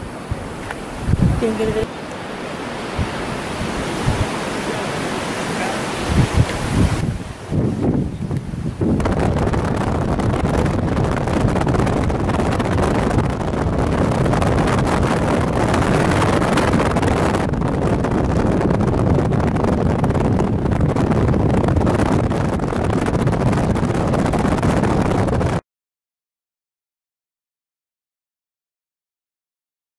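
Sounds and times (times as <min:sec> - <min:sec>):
wind gusting across microphone: 0:00.0 - 0:25.6.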